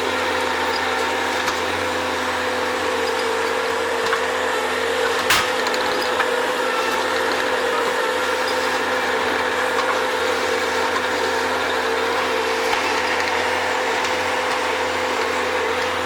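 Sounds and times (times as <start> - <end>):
loader engine running: 0.0 - 16.0.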